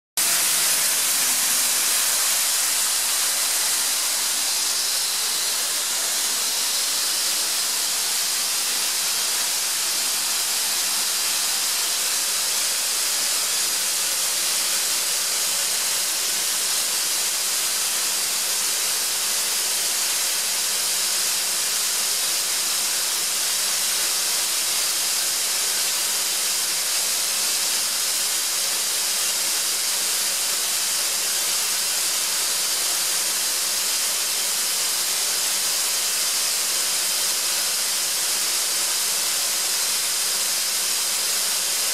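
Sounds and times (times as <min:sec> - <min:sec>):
air compressor hissing: 0:00.2 - 0:41.9.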